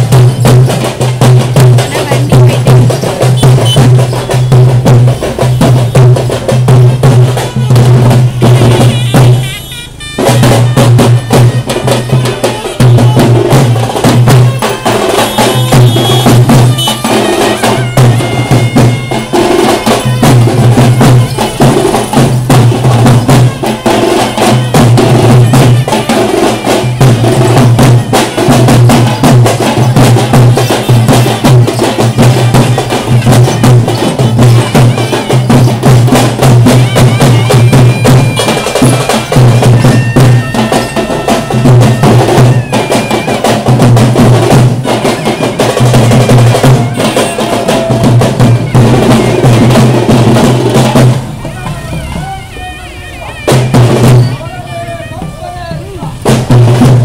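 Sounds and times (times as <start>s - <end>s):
barrel drums playing fast rhythm: 0.0s - 57.0s.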